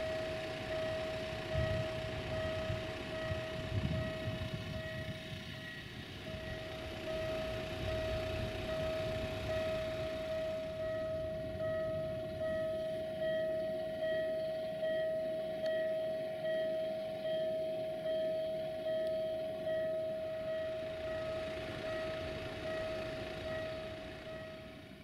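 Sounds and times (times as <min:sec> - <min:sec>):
level crossing warning bell: 0:00.0 - 0:25.0.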